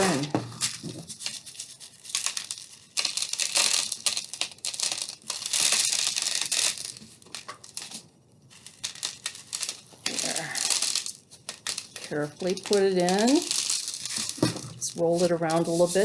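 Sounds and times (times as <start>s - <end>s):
crinkly material rustling: 0.0s - 16.0s.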